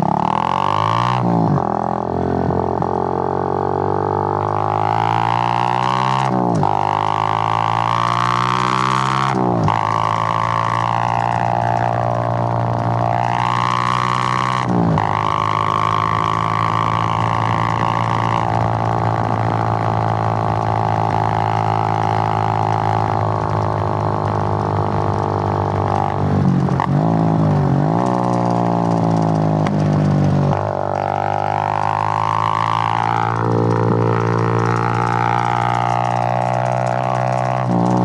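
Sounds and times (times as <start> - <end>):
motorcycle engine droning: 0.0 - 38.0.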